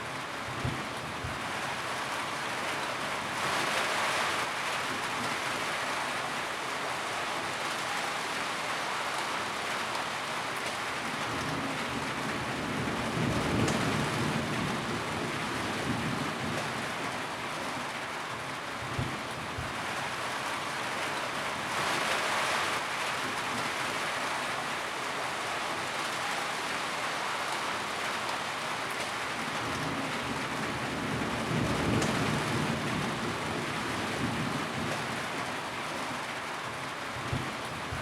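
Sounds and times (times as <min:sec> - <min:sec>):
rain drumming on a tin roof: 0:00.0 - 0:38.0.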